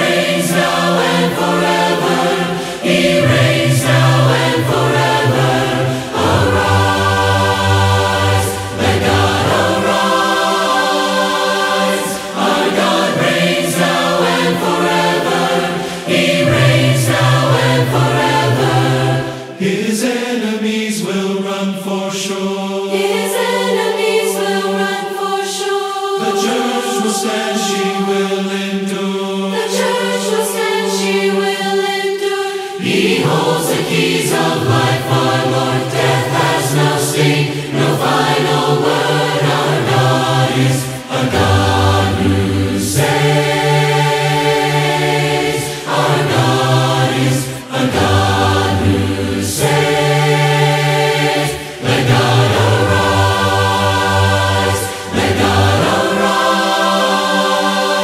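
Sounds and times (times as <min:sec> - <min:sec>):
group singing unaccompanied: 0:00.0 - 0:58.0.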